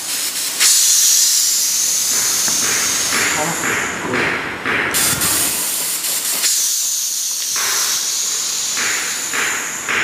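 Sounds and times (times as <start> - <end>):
steady hiss: 0.0 - 3.9, 4.9 - 10.0.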